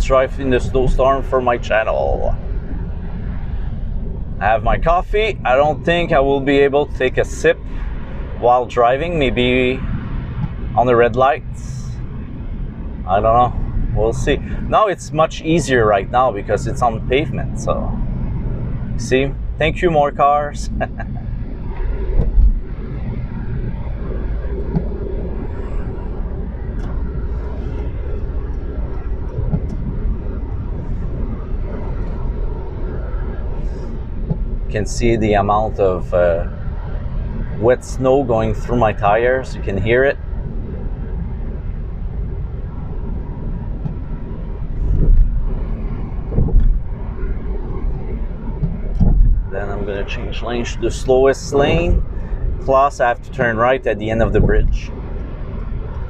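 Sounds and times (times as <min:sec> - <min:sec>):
tires running through slush: 0:00.0 - 0:56.0.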